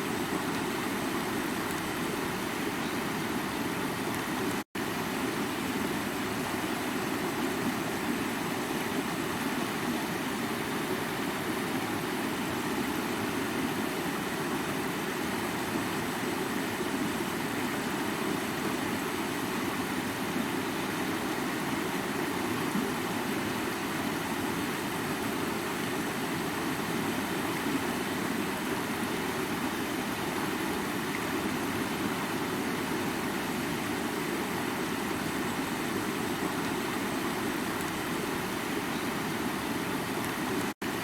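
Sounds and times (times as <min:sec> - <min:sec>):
stream splashing over rocks: 0:00.0 - 0:41.0.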